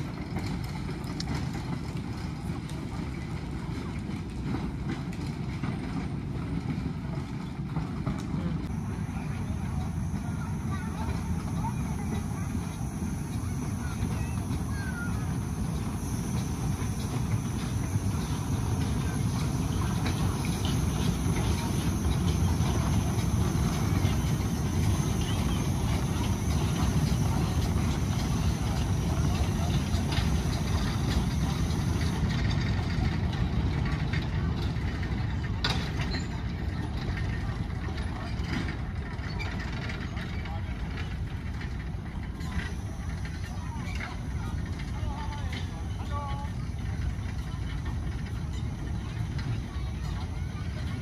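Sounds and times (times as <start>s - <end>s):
small locomotive running: 0.0s - 51.0s
steam train rumbling: 0.0s - 51.0s
wheels ticking: 0.0s - 51.0s.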